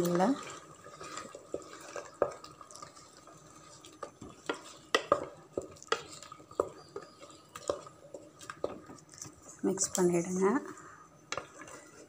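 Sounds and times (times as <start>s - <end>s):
spatula knocking and scraping pot: 0.0s - 10.0s, 10.6s - 12.0s
wooden spatula stirring in pot: 0.0s - 12.0s.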